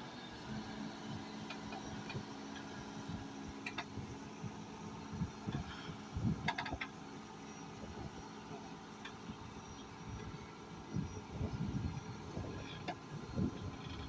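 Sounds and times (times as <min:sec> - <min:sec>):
backhoe engine running: 0:00.0 - 0:14.0.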